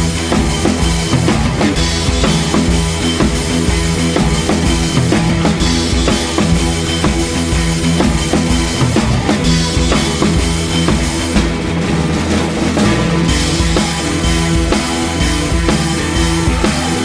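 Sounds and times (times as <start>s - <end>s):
band playing music: 0.0s - 17.0s
drum kit steady beat: 0.0s - 17.0s.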